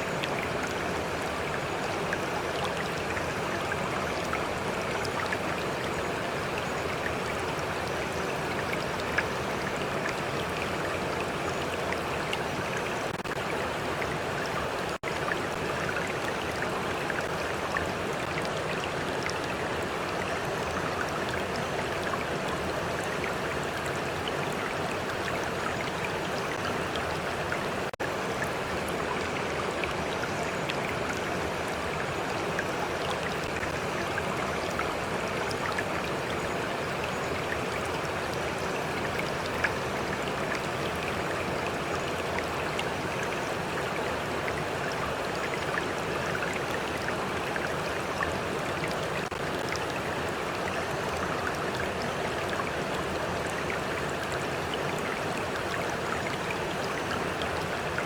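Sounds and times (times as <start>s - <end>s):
stream flowing and splashing: 0.0s - 58.0s.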